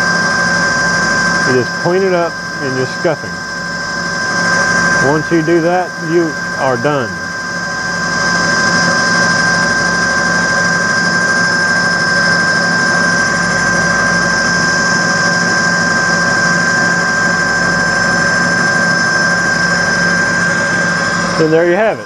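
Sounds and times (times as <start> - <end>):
lathe motor whining: 0.0 - 22.0.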